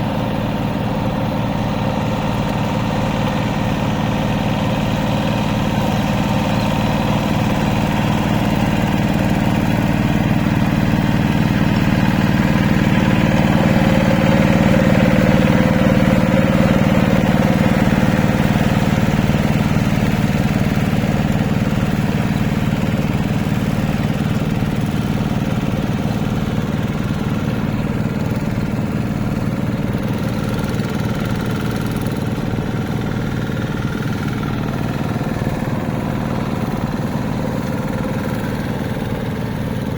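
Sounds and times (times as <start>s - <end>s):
hand tractor engine chugging: 0.0s - 39.9s.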